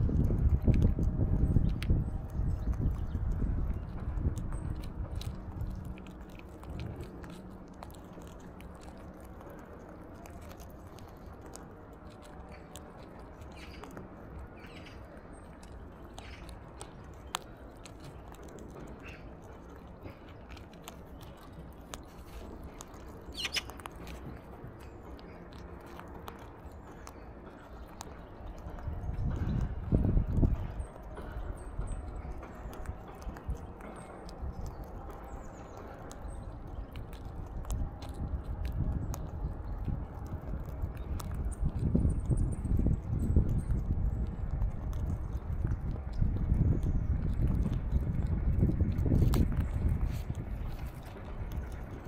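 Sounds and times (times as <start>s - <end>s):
parakeet cracking seeds: 0.0s - 52.0s.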